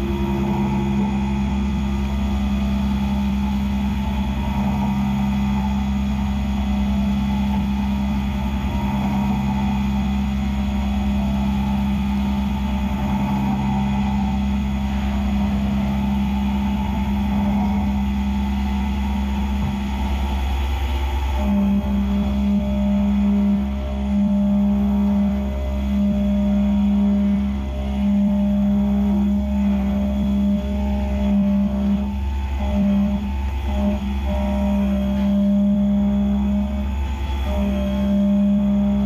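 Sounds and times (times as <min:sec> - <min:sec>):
mill spindle cutting hum: 0:00.0 - 0:39.0.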